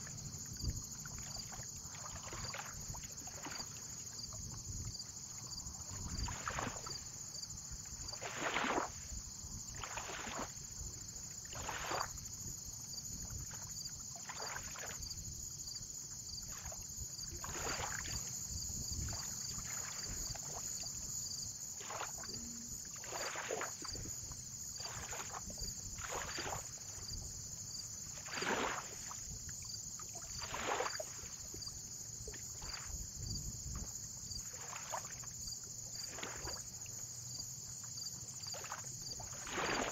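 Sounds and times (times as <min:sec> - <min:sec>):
waves lapping on shore: 0:00.0 - 0:39.9.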